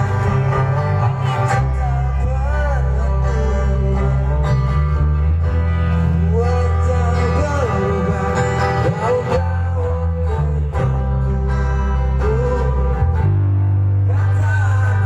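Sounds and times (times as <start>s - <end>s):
song with singing and guitar: 0.0s - 15.0s.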